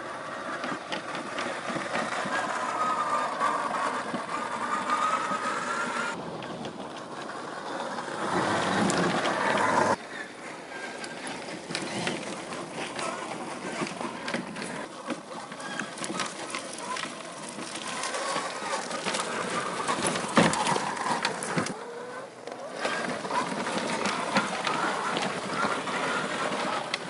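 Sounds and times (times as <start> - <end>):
rc car motor whining: 0.0 - 6.2, 7.0 - 10.0, 10.7 - 27.0
tyres crunching over gravel: 0.0 - 27.0.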